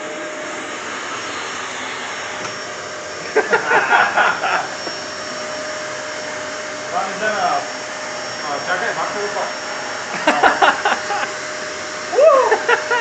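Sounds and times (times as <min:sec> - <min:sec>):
electric drill whirring: 0:00.0 - 0:13.0.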